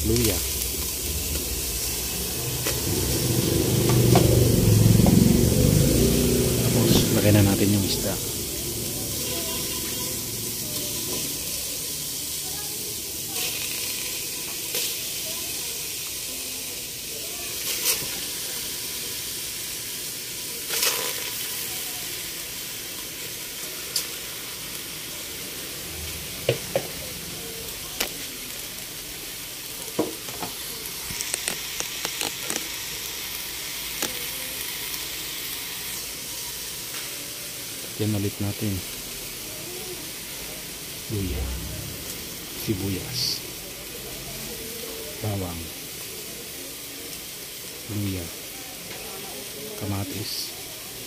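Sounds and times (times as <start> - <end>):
pot hissing on stove: 0.0 - 51.0.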